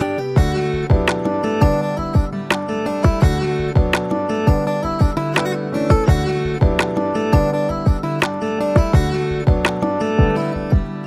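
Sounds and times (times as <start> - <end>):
background music with steady beat: 0.0 - 11.0
plucked guitar: 0.0 - 11.0.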